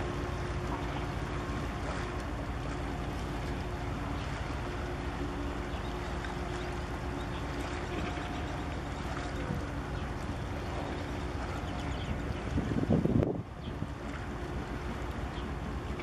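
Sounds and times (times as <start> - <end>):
ship engine hum: 0.0 - 16.0.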